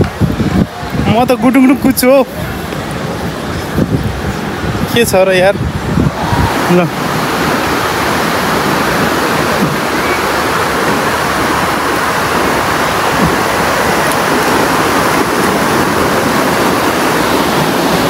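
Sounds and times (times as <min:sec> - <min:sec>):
surf breaking on a beach: 0:00.0 - 0:18.0.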